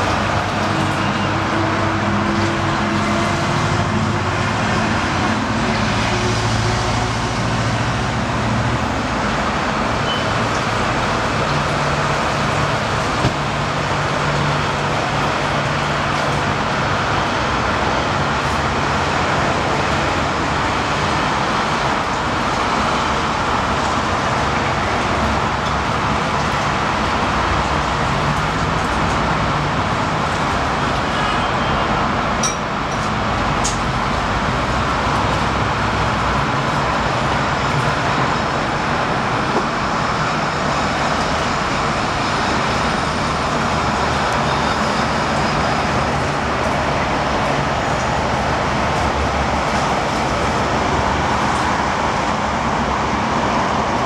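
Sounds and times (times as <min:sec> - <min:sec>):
road traffic roar: 0:00.0 - 0:54.0.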